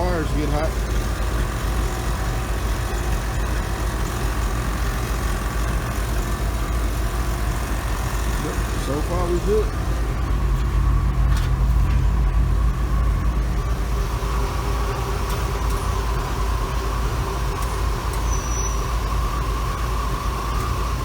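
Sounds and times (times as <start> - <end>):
air compressor humming and whining: 0.0 - 21.0.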